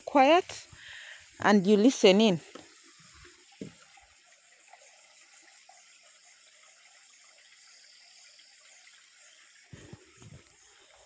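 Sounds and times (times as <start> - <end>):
stream running water: 0.0 - 11.0.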